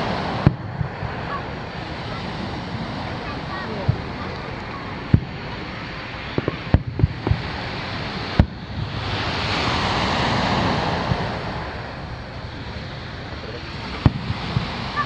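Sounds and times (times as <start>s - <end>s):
fireworks bursting: 0.0s - 15.0s
surf washing onto beach: 0.0s - 15.0s.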